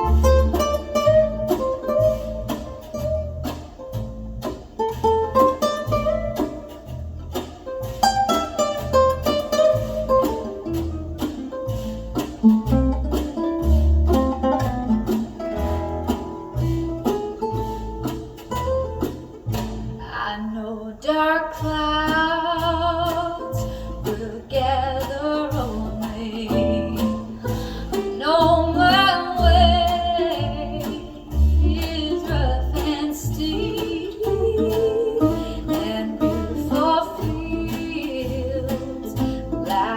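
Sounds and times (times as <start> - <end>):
country song with guitar: 0.0 - 39.9.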